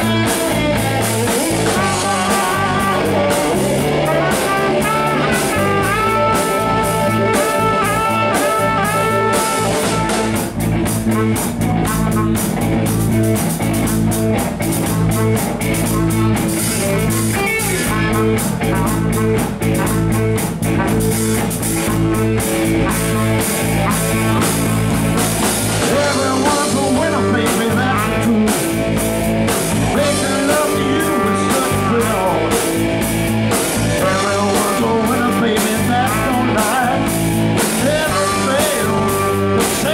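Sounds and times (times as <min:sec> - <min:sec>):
saxophone: 0:00.0 - 0:28.8, 0:29.9 - 0:39.9
bass guitar: 0:00.0 - 0:39.9
drum kit beat: 0:00.0 - 0:39.9
electric guitar: 0:00.0 - 0:39.9.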